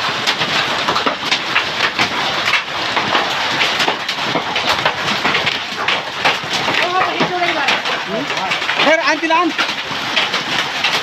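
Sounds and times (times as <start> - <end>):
hailstones and rain pelting: 0.0 - 11.0.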